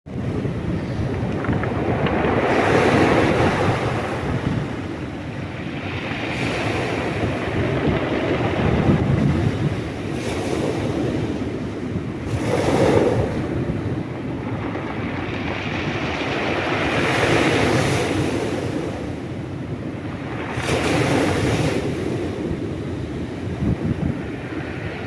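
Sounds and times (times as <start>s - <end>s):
sea waves breaking on shore: 0.1s - 25.0s
wind rumble on microphone: 0.1s - 25.0s.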